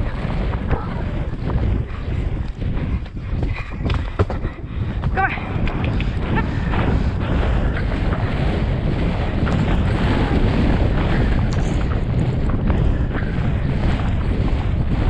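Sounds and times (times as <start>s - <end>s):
low rumble: 0.0s - 15.0s
wind buffeting microphone: 0.0s - 15.0s.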